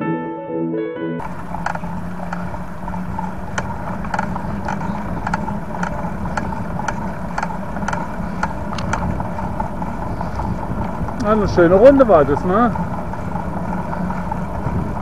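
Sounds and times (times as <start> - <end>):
bicycle tyre rumble: 1.2 - 15.0
wind noise: 1.2 - 15.0.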